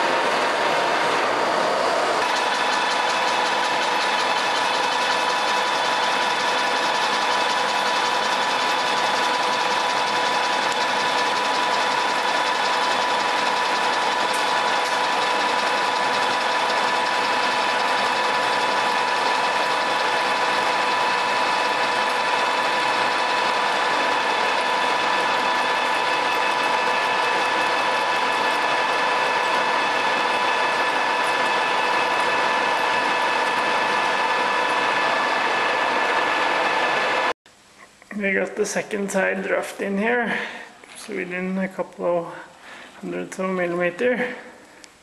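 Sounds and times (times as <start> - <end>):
lathe machine drone: 0.0 - 37.4.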